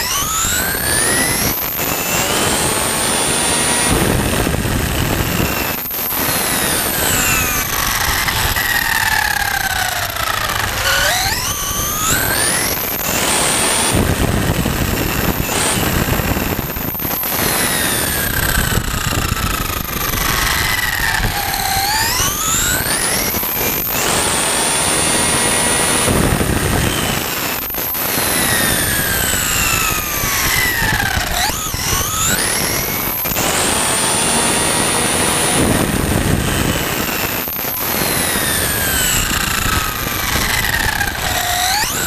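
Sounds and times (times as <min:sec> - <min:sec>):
electric motor whine: 0:00.0 - 0:42.0.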